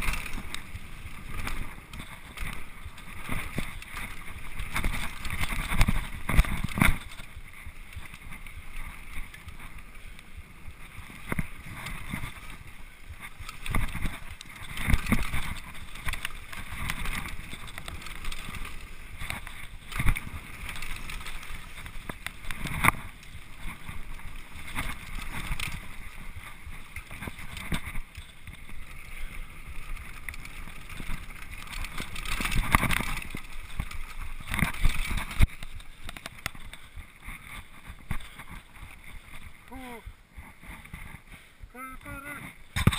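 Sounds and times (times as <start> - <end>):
bike knocks and rattles: 0.0 - 10.0, 10.7 - 39.7, 42.6 - 42.9
mountain bike rolling over dirt: 0.0 - 42.9.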